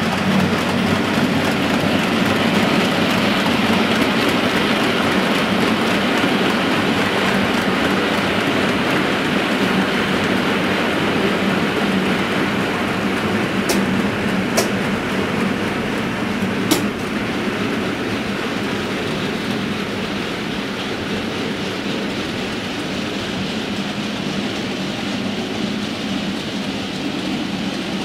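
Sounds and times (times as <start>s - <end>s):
model train wagons rolling: 0.0s - 28.0s
wheels clicking over rail joints: 0.0s - 28.0s.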